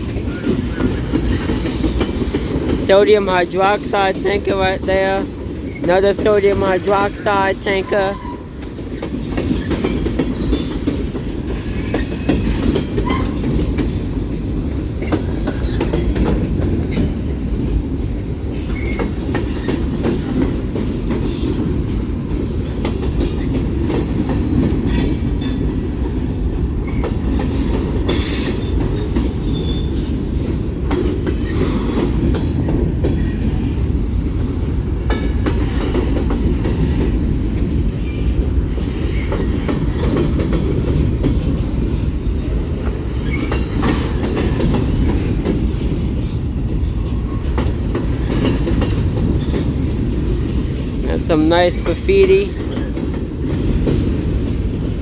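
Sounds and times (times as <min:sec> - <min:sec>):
wheels clacking over rail joints: 0:00.0 - 0:51.1, 0:51.8 - 0:55.0
freight train rumbling past: 0:00.0 - 0:55.0.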